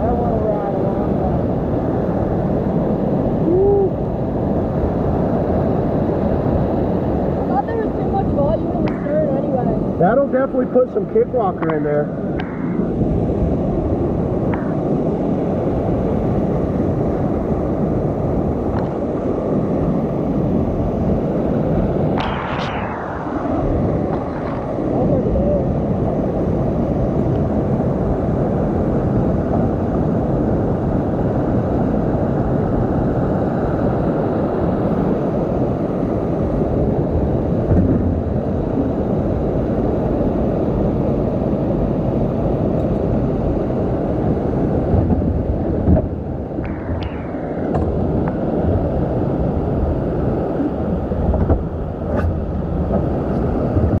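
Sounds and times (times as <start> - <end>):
rushing whitewater roar: 0.0 - 54.0.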